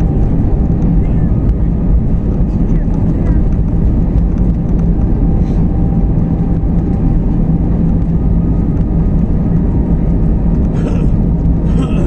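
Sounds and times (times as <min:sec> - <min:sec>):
aircraft cabin rumble: 0:00.0 - 0:12.0
low even hum: 0:00.0 - 0:12.0.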